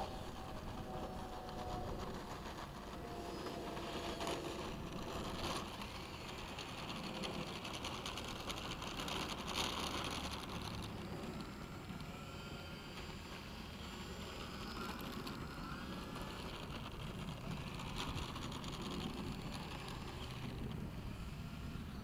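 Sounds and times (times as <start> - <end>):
model plane propeller whirring: 0.0 - 22.0
scattered clicks: 0.3 - 12.2, 12.9 - 20.9.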